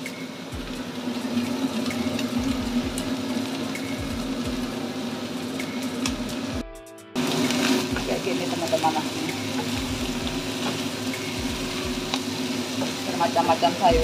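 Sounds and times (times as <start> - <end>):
stir-frying hiss and ticks: 0.0 - 6.6, 7.2 - 14.0
range hood fan hum: 0.0 - 14.0.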